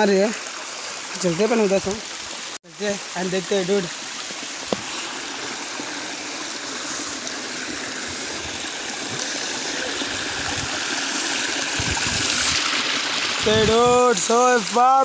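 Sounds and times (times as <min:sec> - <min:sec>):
stream rushing over boulders: 0:00.0 - 0:15.0.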